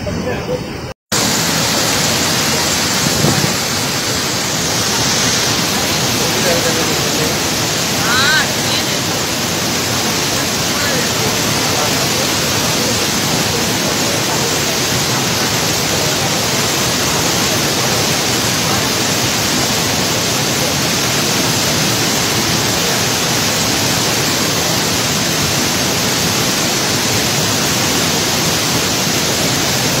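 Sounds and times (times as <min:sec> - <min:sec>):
waterfall rushing: 0:01.1 - 0:30.0.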